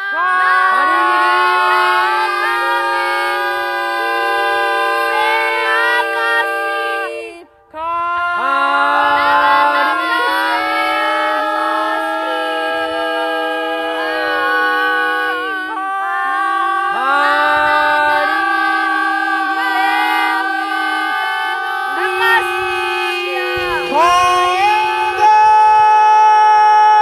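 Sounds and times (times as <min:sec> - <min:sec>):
group singing sustained notes: 0:00.0 - 0:27.0.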